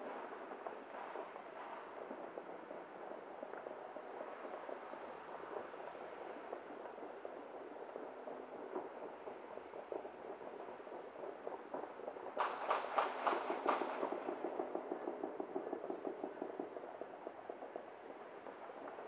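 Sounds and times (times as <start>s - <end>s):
distant fireworks crackling: 0.0s - 19.0s.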